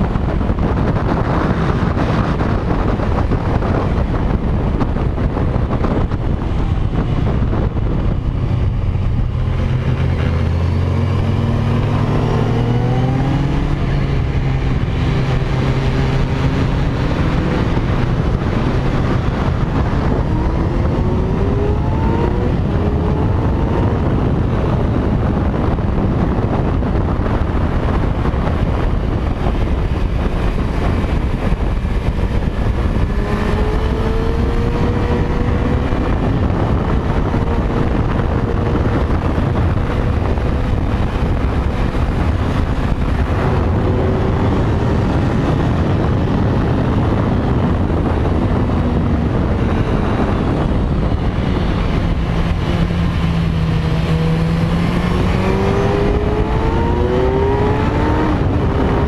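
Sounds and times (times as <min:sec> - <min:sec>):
motorcycle engine accelerating: 0:00.0 - 0:59.0
wind rushing: 0:00.0 - 0:59.0.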